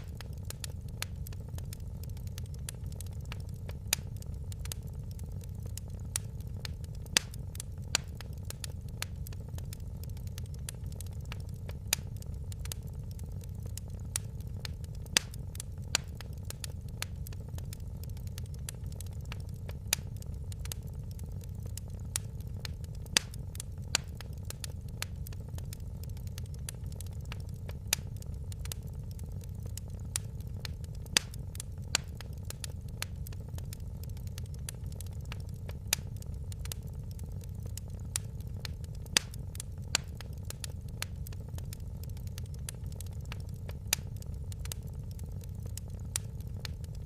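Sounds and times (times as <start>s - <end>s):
fire popping: 0.0s - 47.0s
wood fire crackling: 0.0s - 47.0s.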